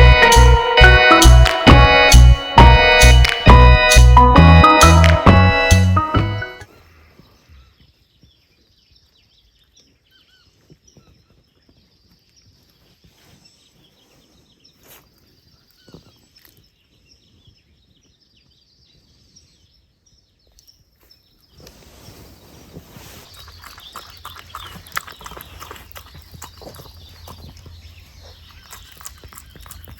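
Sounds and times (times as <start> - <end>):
bird chirps: 0.0 - 29.9.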